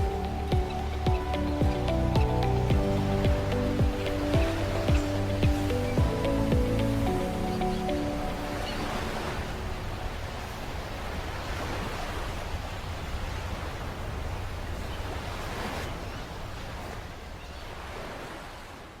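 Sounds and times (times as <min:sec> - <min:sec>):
ocean surf rushing: 0:00.0 - 0:19.0.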